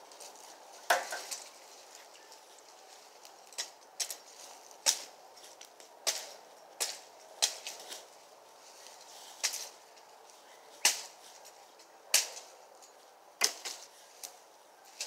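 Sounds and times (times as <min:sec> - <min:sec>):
dry twigs snapping: 0:00.1 - 0:15.0.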